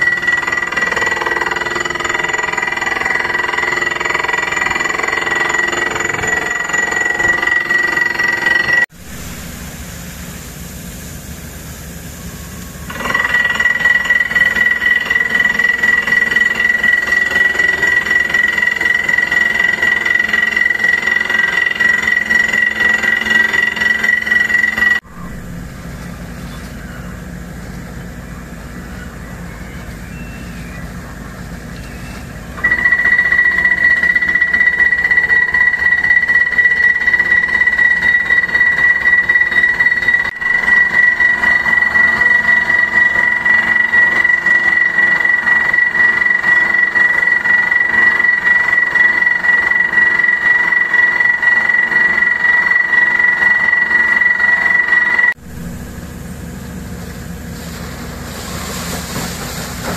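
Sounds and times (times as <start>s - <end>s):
high-pitched drilling whine: 0.0s - 58.9s
drilling rig engine running: 0.0s - 59.9s.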